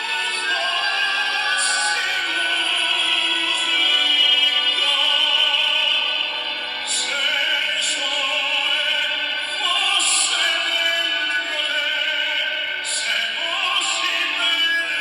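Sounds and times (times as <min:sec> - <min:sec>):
man singing operatic style: 0:00.0 - 0:15.0.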